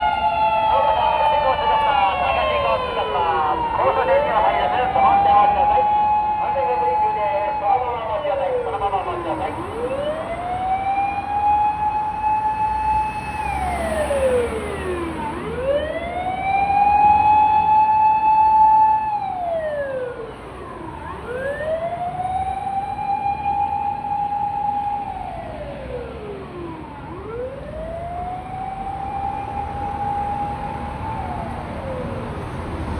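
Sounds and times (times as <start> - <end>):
fire engine siren wailing: 0.0 - 32.9
low rumble of vehicle and road: 0.0 - 32.9.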